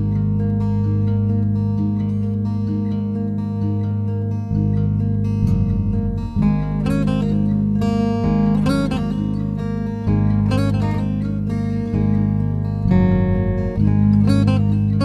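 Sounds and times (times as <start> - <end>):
acoustic guitar background music: 0.0 - 15.0.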